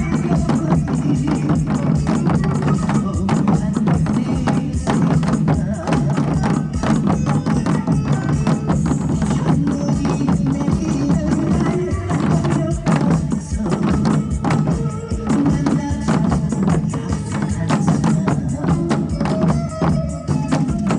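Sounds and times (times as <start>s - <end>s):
music with drum beat: 0.0s - 20.9s.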